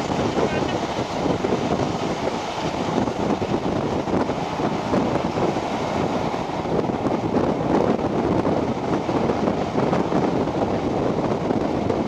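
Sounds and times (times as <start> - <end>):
train carriages running on rails: 0.0 - 12.0
wind buffeting microphone: 0.0 - 12.0.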